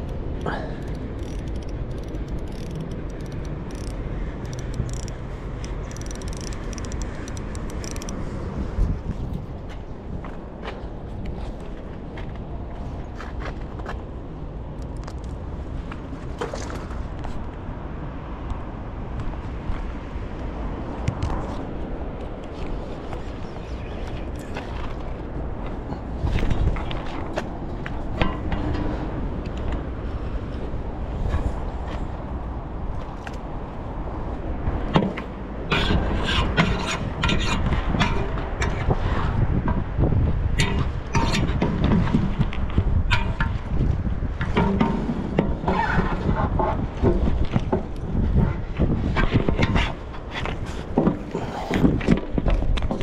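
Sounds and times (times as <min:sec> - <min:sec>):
low city rumble: 0:00.0 - 0:53.0.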